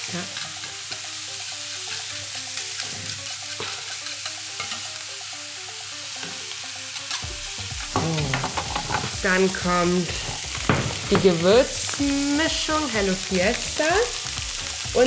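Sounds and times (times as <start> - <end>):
soft background music: 0.0 - 15.0
vegetables sizzling in a pan: 0.0 - 15.0.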